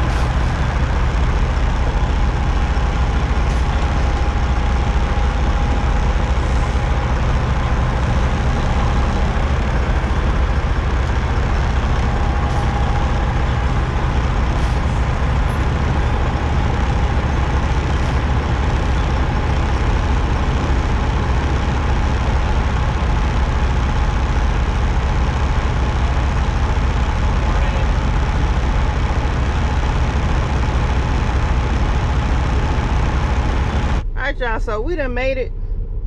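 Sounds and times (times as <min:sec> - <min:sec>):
diesel engines idling: 0:00.0 - 0:36.0.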